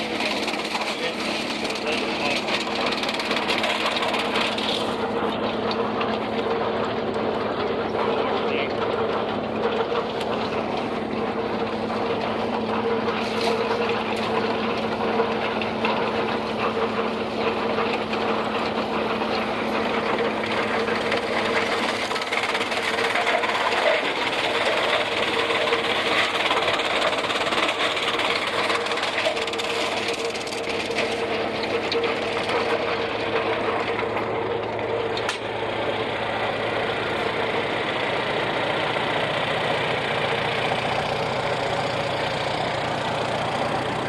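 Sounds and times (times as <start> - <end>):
farm machine humming and rattling: 0.0 - 44.0.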